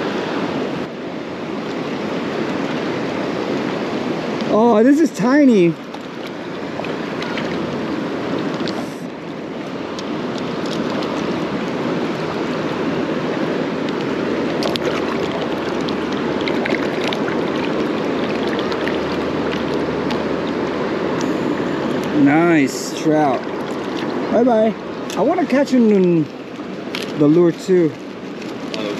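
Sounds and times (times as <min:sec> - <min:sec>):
stream flowing: 0:00.0 - 0:28.9.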